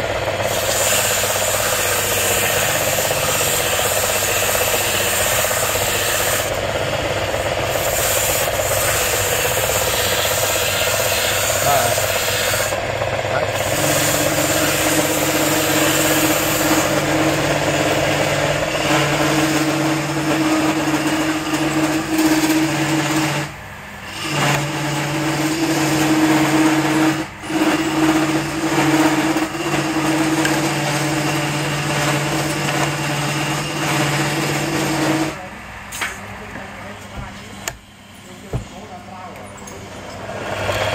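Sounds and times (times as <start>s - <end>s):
chisel scraping spinning wood: 0.0s - 35.4s
lathe motor hum: 0.0s - 38.8s, 39.8s - 40.9s.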